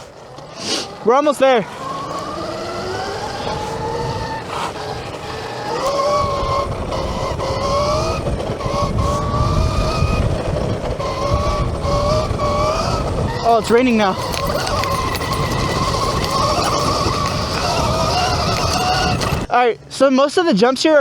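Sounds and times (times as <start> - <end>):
electric motor whine: 0.0 - 19.5
wind and tyres rumble: 0.0 - 21.0.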